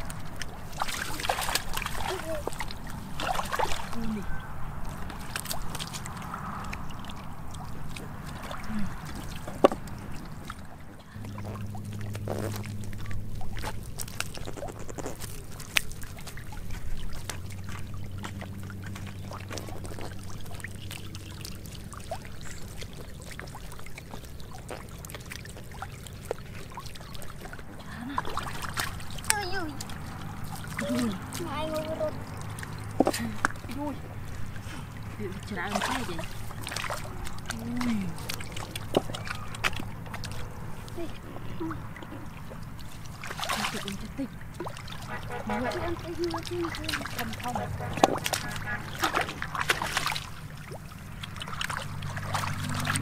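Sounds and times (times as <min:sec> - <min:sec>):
fish flopping and splashing in water: 0:00.0 - 0:53.0.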